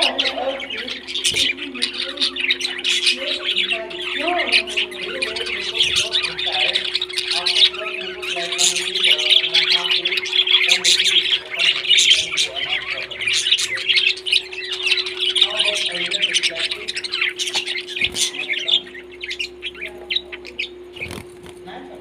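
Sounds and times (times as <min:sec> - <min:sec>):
low steady hum: 0:00.0 - 0:22.0
parrots chirping and squawking: 0:00.0 - 0:22.0.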